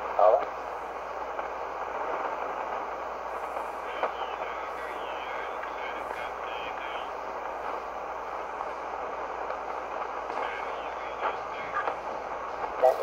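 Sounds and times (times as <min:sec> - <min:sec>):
faint warble of weak signal: 0:00.0 - 0:13.0
radio crackle: 0:00.0 - 0:13.0
radio static and hiss: 0:00.0 - 0:13.0.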